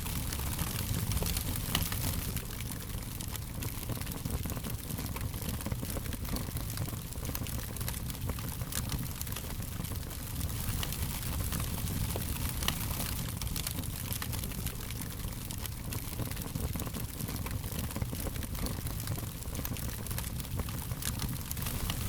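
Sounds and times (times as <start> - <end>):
fire crackling and popping: 0.0 - 22.0
wood fire rumbling: 0.0 - 22.0.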